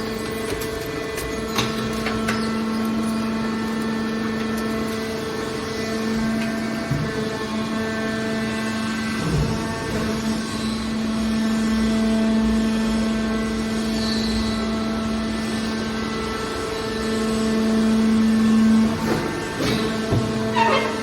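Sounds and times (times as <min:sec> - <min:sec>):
baler power unit humming: 0:00.0 - 0:21.0.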